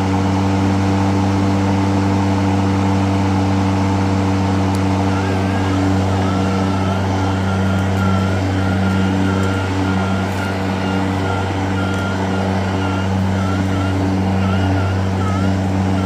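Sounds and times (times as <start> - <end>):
battery lawn mower running: 0.0 - 16.0.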